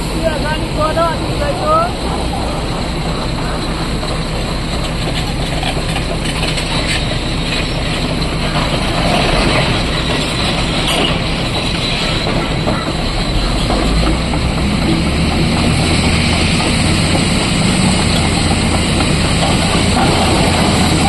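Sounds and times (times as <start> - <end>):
diesel engines under load: 0.0 - 21.0.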